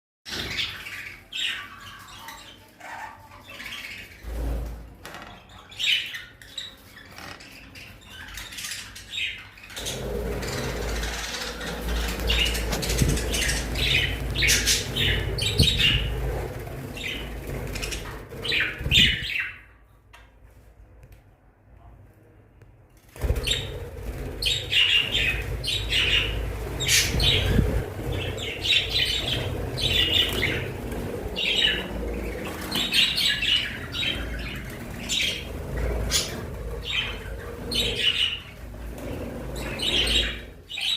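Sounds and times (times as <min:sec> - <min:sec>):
budgerigars chirping: 0:00.3 - 0:04.3, 0:05.4 - 0:19.7, 0:24.4 - 0:38.6, 0:39.6 - 0:40.9.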